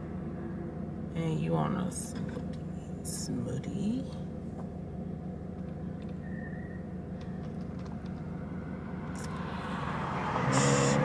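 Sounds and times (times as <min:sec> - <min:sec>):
car engine rumble and road noise: 0:00.0 - 0:11.0.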